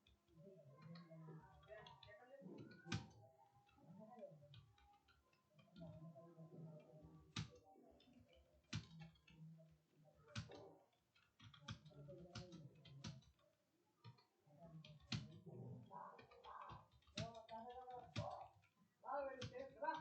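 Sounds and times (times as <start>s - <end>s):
computer keyboard typing: 0.0s - 20.0s.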